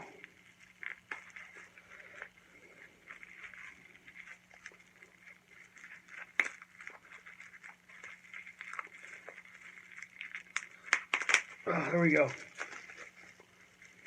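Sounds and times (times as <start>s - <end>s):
packaging rustling: 0.0s - 14.0s.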